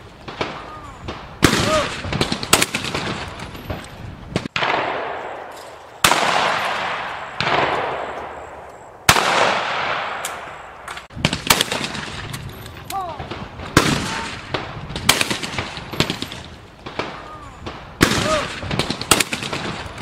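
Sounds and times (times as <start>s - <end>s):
shotgun shots: 0.3s - 12.5s, 13.1s - 20.0s.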